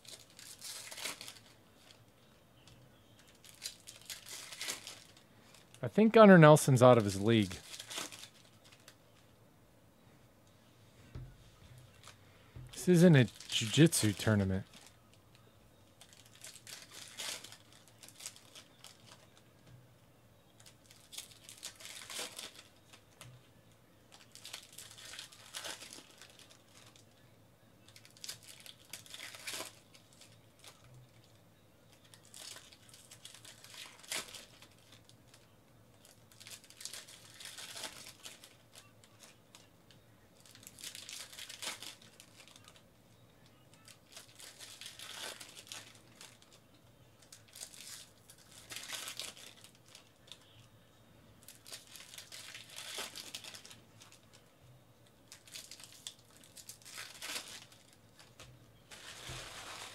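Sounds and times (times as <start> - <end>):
foil wrappers crinkling and tearing: 0.0 - 9.2, 11.9 - 19.5, 20.6 - 23.3, 24.1 - 27.2, 27.8 - 42.8, 43.7 - 50.7, 51.4 - 54.5, 55.2 - 59.9.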